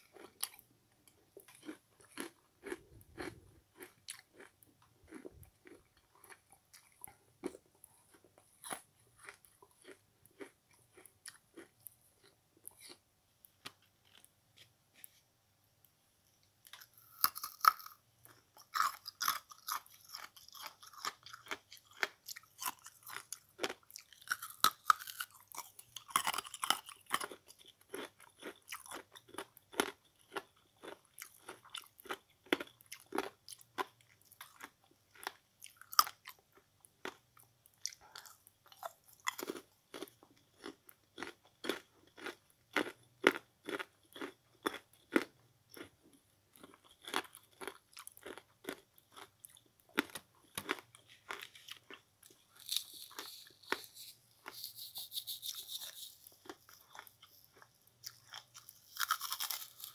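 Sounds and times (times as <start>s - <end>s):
person chewing sponge crunches: 0.0s - 13.0s, 13.6s - 15.2s, 16.7s - 59.9s.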